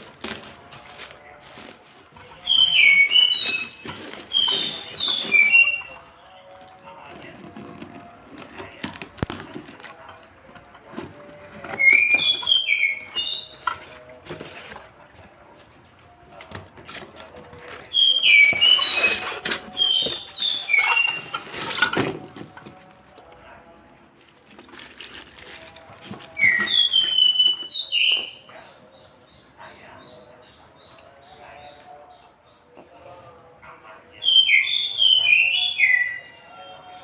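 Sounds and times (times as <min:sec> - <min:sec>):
songbird singing: 0:00.4 - 0:22.7, 0:25.5 - 0:37.0.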